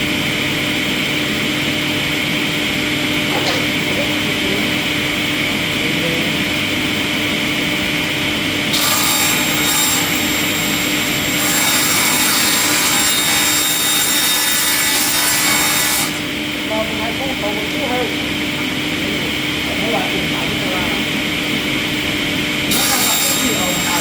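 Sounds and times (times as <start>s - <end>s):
wood machinery humming: 0.0s - 14.2s, 15.1s - 24.0s.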